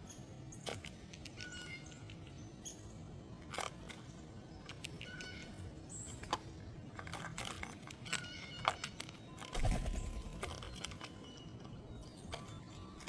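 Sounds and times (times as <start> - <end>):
small birds chirping and clicking: 0.0 - 13.0.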